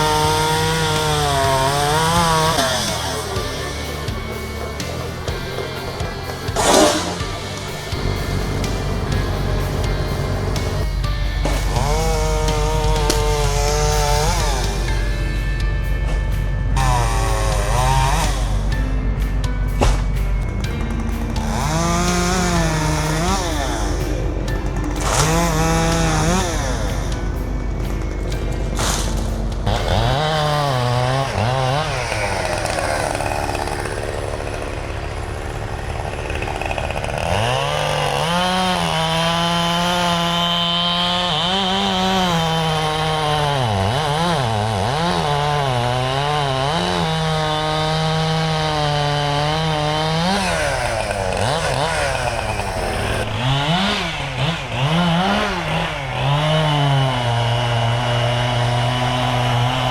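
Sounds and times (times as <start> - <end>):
chainsaw running hard: 0.0 - 59.9.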